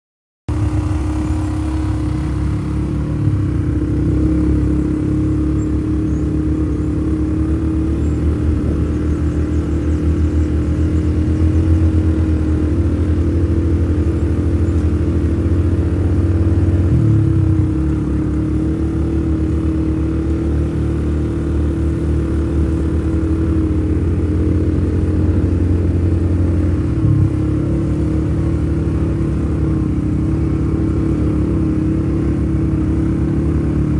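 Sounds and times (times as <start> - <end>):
vehicle engine drone: 0.5 - 33.9.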